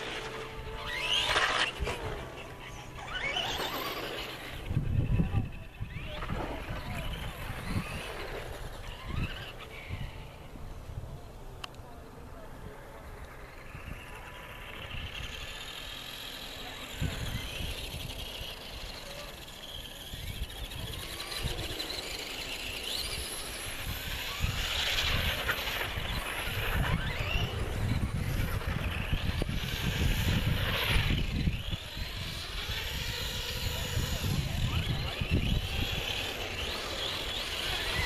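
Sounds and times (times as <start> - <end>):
toy truck motor whining: 0.0 - 10.8, 12.7 - 38.0.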